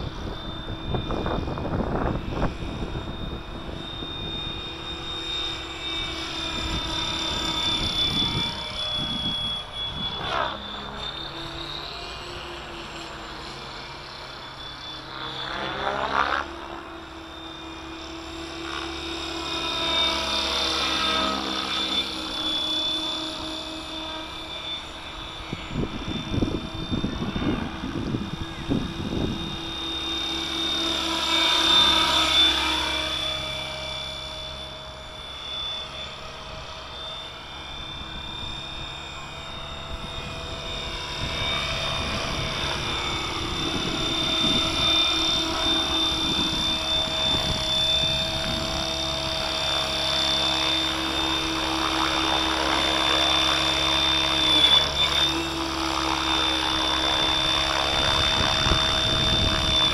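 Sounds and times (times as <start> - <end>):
model helicopter motor whine: 0.0 - 59.9.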